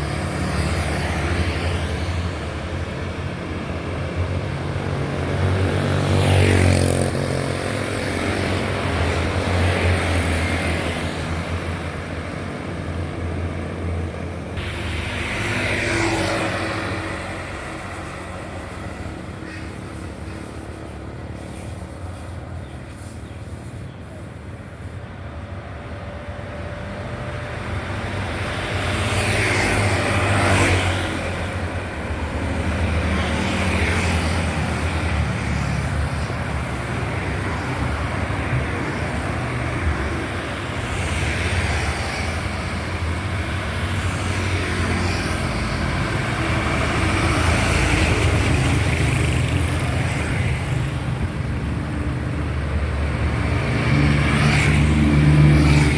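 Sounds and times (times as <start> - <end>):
vehicles passing by: 0.0 - 55.9.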